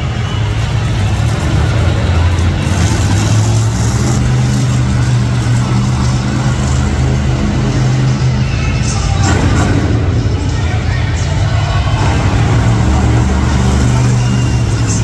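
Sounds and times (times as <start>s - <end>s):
loud truck engine running: 0.0s - 15.0s.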